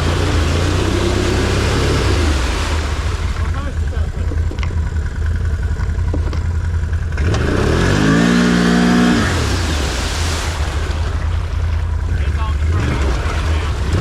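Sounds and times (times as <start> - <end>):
vehicle engine idling and revving: 0.0 - 14.0.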